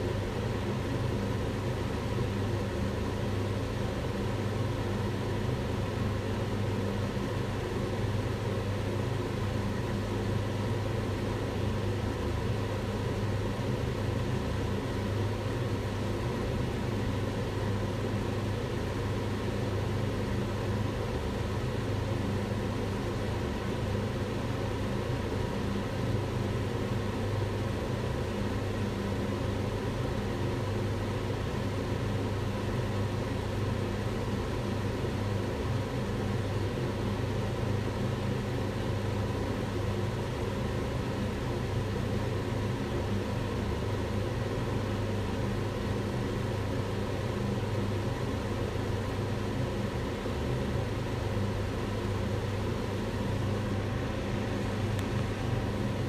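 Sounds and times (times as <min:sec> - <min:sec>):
range hood fan running: 0:00.0 - 0:56.0.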